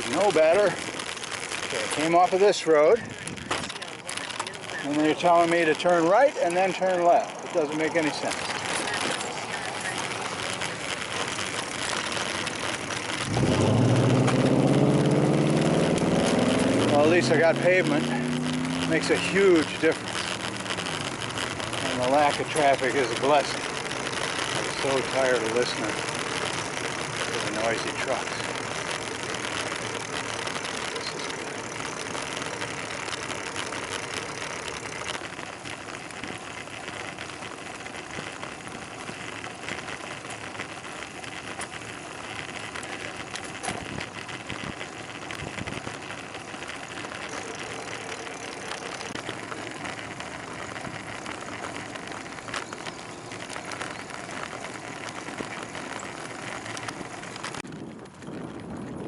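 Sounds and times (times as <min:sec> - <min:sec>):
bicycle clicks and rattles: 0:00.0 - 0:59.0
bicycle tyre and wind noise: 0:00.0 - 0:59.0.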